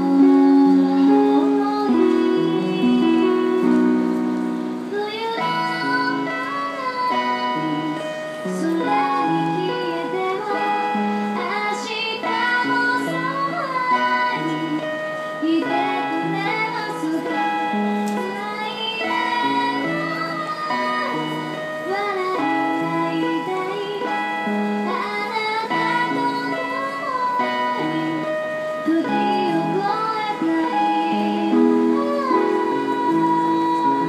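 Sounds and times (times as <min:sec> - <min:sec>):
instrumental sustained chords: 0:00.0 - 0:34.0
woman singing into a microphone: 0:00.0 - 0:34.0.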